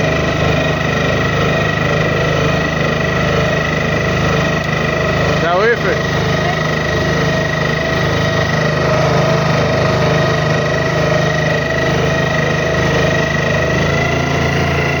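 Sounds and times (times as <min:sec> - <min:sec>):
boat engine droning: 0:00.0 - 0:15.0
high whine: 0:00.0 - 0:15.0.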